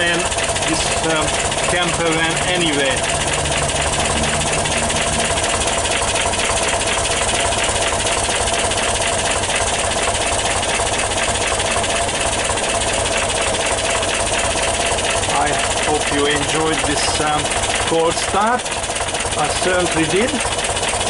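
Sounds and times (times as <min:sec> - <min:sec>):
van engine idling: 0:00.0 - 0:21.0.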